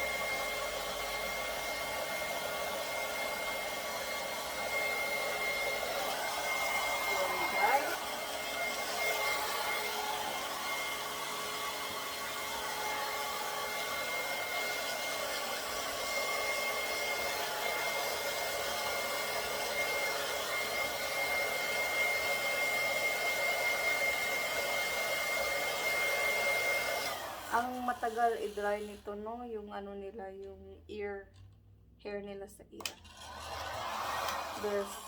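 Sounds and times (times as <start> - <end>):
blow dryer whining: 0.0 - 29.0, 32.8 - 35.0.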